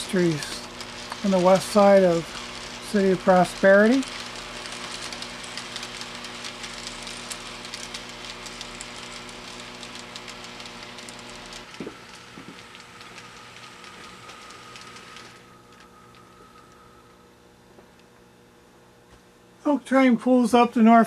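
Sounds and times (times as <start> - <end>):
model train wheels clicking: 0.0 - 17.0
steady hum: 0.0 - 21.0.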